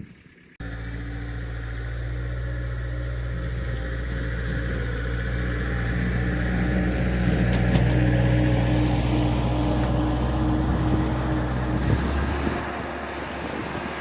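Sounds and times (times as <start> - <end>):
vehicle engine running: 0.2 - 14.0.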